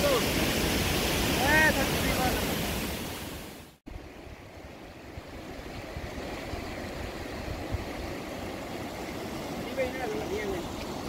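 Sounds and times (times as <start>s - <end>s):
river running over stones: 0.0s - 11.0s.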